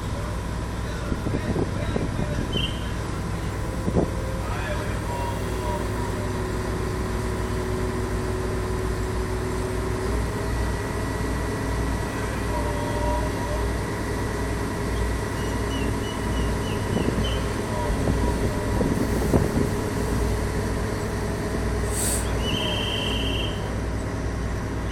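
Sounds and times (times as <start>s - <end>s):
heavy machinery rumbling: 0.0s - 24.9s
machinery whine: 0.0s - 24.9s.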